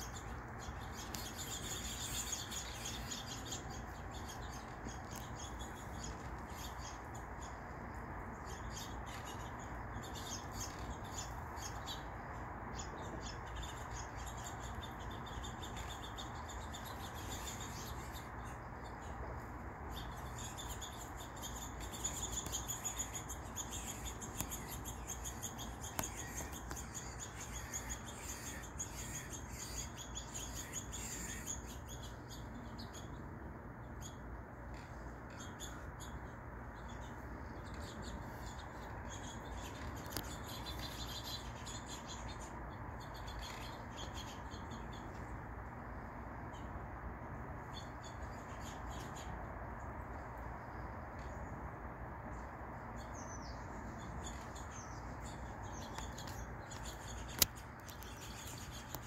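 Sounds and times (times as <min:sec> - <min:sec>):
small songbirds chirping: 0:00.0 - 0:59.0
steady low background hiss: 0:00.0 - 0:59.0.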